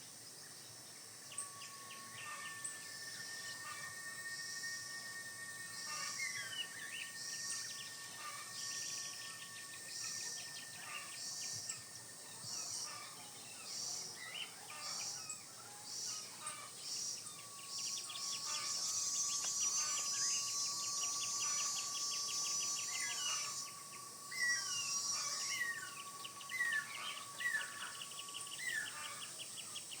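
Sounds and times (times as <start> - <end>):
insects calling: 0.0 - 30.0
birds calling: 1.3 - 30.0.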